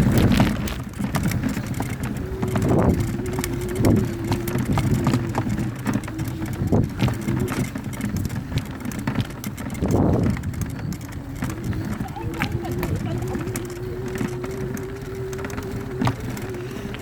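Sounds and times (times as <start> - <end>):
bike rattling and clicking: 0.0 - 17.0
bike tyres rumbling on dirt: 0.0 - 17.0
steady hum: 1.2 - 17.0.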